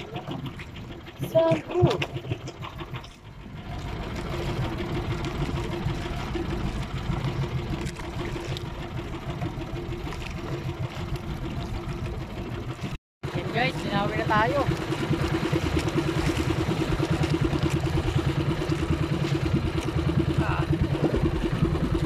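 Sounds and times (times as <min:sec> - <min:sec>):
boat engine humming: 0:00.0 - 0:22.0
water noise: 0:00.0 - 0:22.0
wind: 0:00.0 - 0:22.0.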